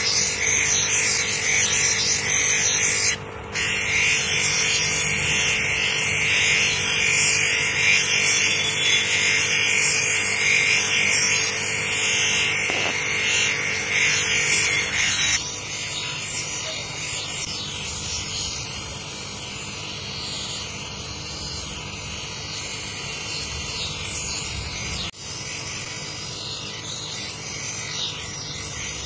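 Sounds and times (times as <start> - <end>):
motor hum: 0.0 - 29.0.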